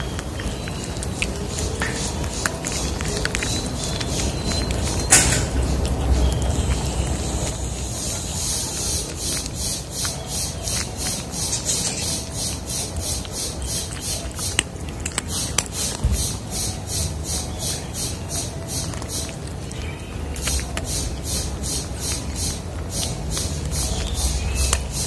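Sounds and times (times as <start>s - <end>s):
kittens crunching dry kibble: 0.0s - 25.0s.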